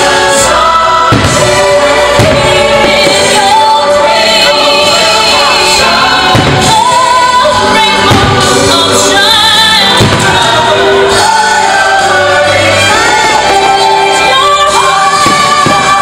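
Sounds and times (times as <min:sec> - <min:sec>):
firework bursts booming: 0:00.0 - 0:14.2
choir singing over music: 0:00.0 - 0:16.0.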